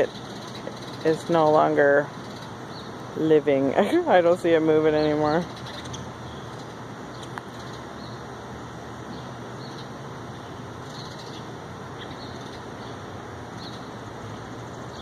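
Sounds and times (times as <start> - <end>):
small birds chirping: 0.0 - 8.3, 9.0 - 15.0
outdoor background hiss: 0.0 - 15.0.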